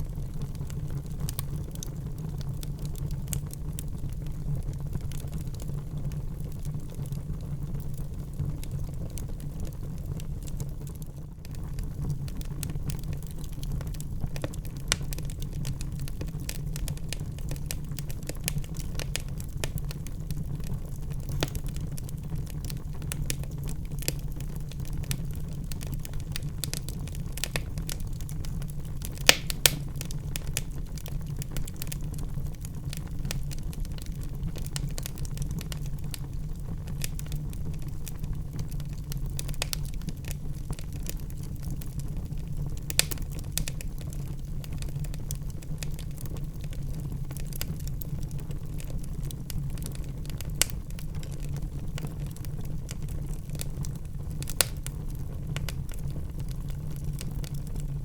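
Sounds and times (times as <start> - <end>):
fire crackling and popping: 0.0 - 58.0
low fire rumble: 0.0 - 58.0.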